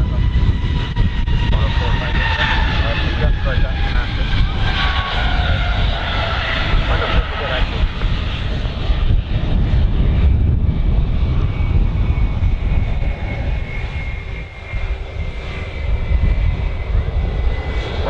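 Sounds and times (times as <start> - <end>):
airliner engines running: 0.0 - 18.0.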